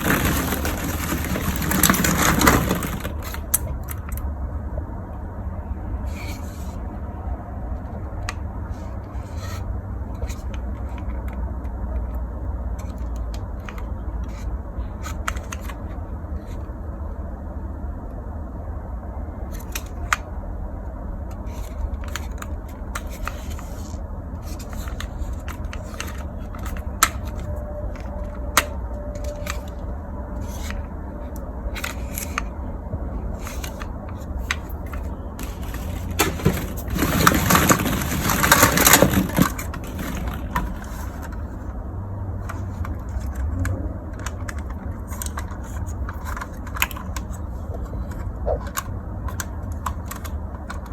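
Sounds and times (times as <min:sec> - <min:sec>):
plastic toys clicking and scraping: 0:00.0 - 0:04.3, 0:06.1 - 0:06.9, 0:07.8 - 0:16.8, 0:19.4 - 0:20.3, 0:21.2 - 0:41.8, 0:42.4 - 0:50.9.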